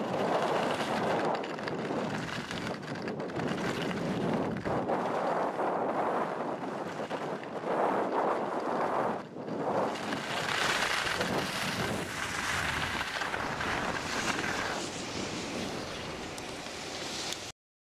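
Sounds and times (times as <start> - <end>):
skis sliding on snow: 0.0 - 17.5
wind rushing over microphone: 0.0 - 17.5.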